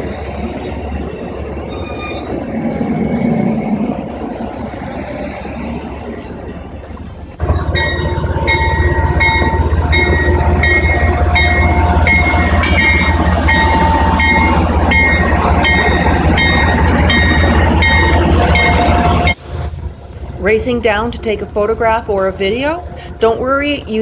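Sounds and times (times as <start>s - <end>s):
locomotive bell ringing: 0.0s - 19.4s
locomotive engine rumbling: 0.0s - 24.0s.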